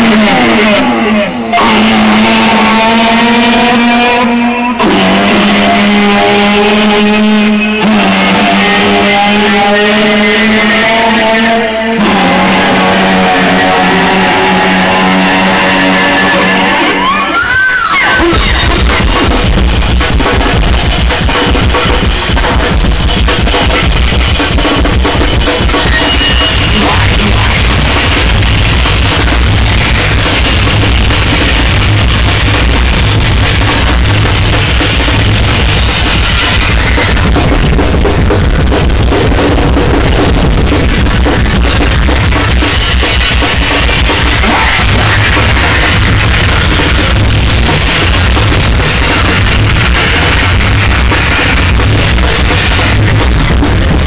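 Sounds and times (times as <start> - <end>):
distorted electric bass: 0.0 - 17.4, 18.0 - 54.0
loud live noise rock: 0.0 - 54.0
pounding drum kit: 0.0 - 54.0.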